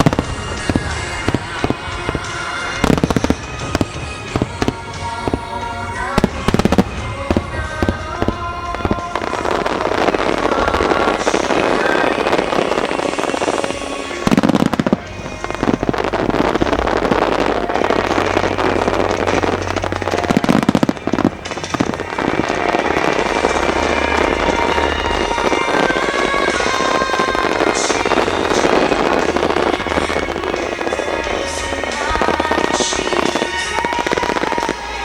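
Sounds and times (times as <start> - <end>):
fireworks booming: 0.0 - 35.0
fireworks crackling: 0.0 - 35.0
music over loudspeakers: 0.0 - 35.0.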